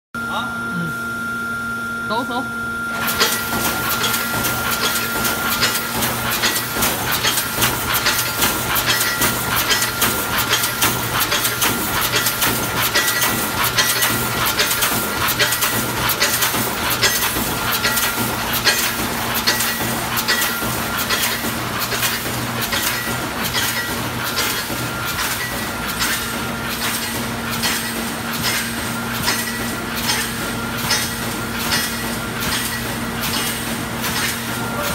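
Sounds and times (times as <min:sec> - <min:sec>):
machine hum: 0:00.2 - 0:34.9.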